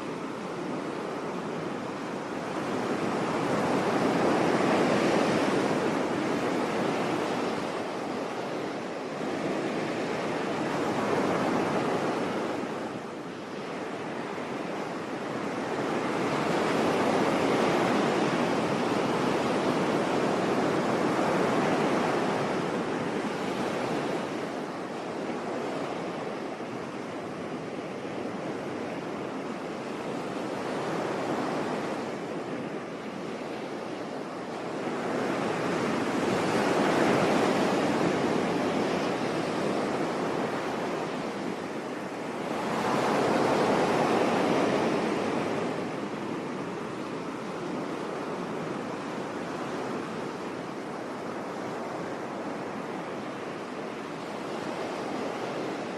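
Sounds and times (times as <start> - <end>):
sea waves breaking on shore: 0.0 - 55.9.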